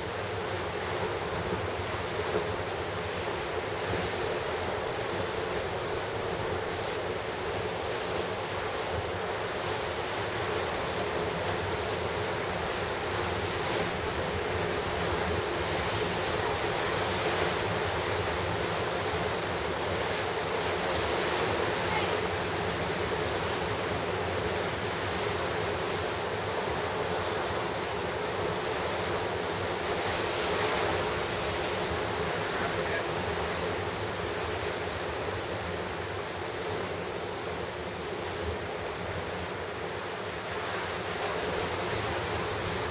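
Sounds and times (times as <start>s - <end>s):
surf breaking on rocky shore: 0.0s - 42.9s.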